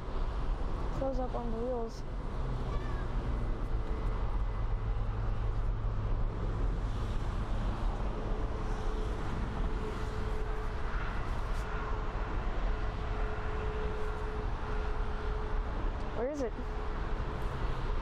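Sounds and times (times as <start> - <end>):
jet engine noise: 0.1 - 18.0.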